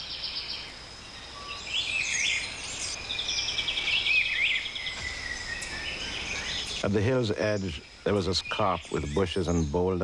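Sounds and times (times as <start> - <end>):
birds chirping and singing: 0.0 - 10.0.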